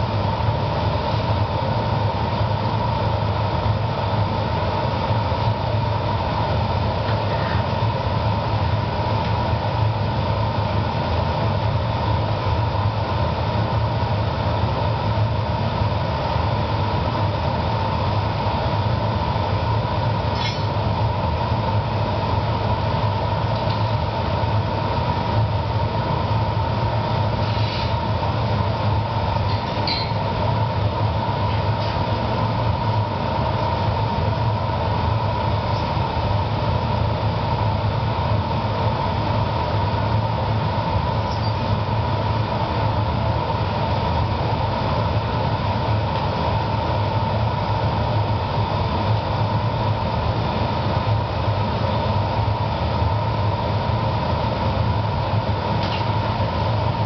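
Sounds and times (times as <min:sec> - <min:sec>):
gas furnace burners rushing: 0:00.0 - 0:57.0.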